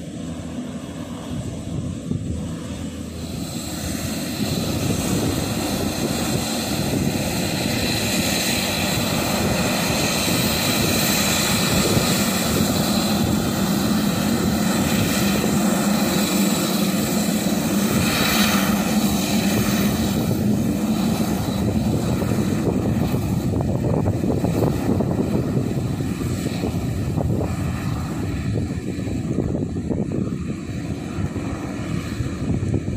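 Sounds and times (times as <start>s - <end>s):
low propeller drone: 0.0s - 32.9s
turbine whine: 0.0s - 32.9s.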